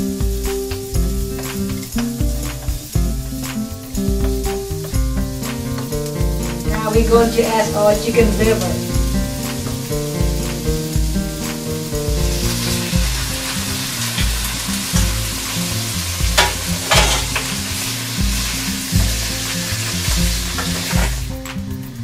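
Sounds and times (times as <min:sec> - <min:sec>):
background music with steady beat: 0:00.0 - 0:22.0
food sizzling in frying pan: 0:00.0 - 0:22.0.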